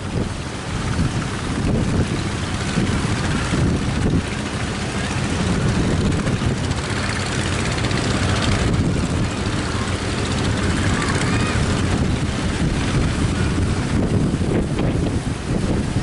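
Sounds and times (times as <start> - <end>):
boat engine droning: 0.0 - 16.0
strong wind: 0.0 - 16.0
surf: 0.0 - 16.0.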